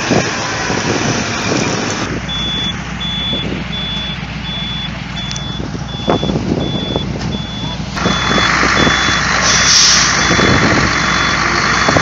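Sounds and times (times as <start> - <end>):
heavy diesel engine running: 0.0 - 12.0
truck reversing alarm beeping: 1.4 - 12.0.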